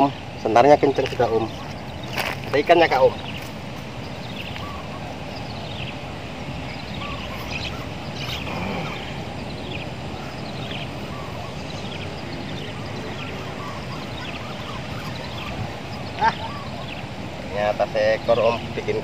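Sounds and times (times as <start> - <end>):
low background rush: 0.0 - 19.0
small birds chirping: 0.0 - 19.0.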